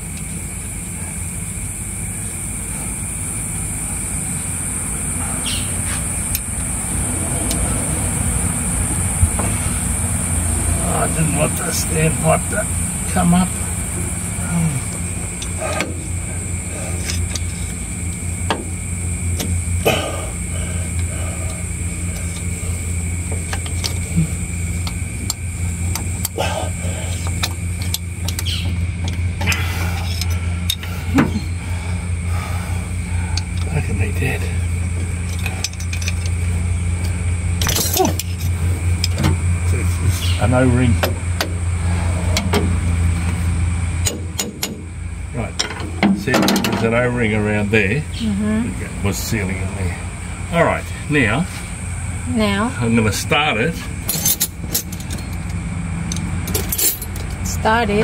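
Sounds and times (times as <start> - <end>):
constant high hiss: 0.0 - 58.0
low mechanical drone: 0.0 - 58.0
steady low hum: 0.0 - 58.0.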